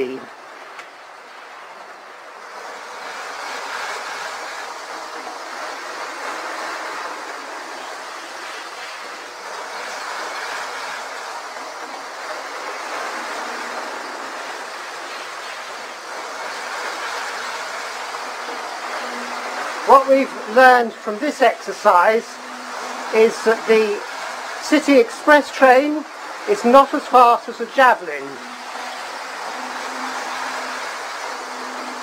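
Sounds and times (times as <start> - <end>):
model trains whirring on rails: 0.0 - 32.0.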